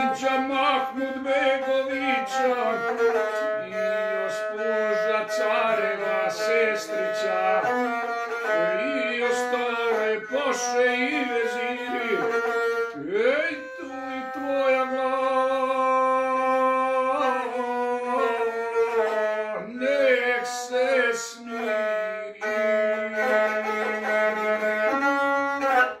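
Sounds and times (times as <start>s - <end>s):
man singing long held notes: 0.0s - 25.6s
bowed folk fiddle: 0.0s - 26.0s.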